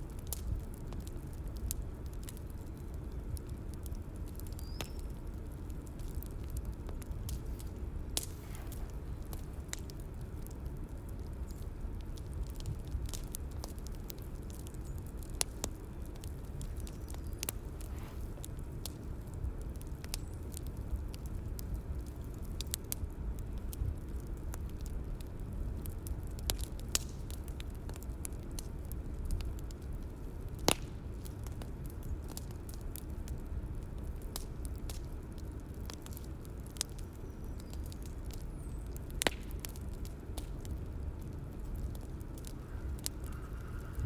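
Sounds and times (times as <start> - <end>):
bonfire crackling: 0.0 - 44.0
fire popping and snapping: 0.0 - 44.0.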